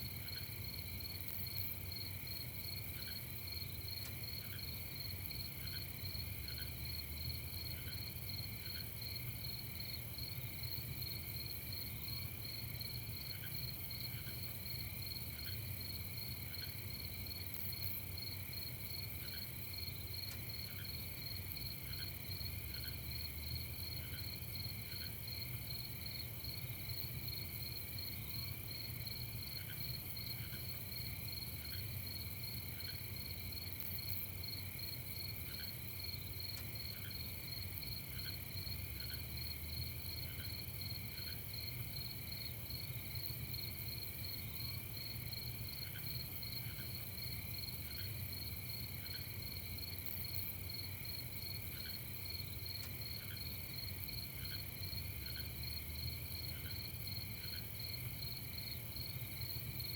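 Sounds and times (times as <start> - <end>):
crickets trilling: 0.1 - 59.9.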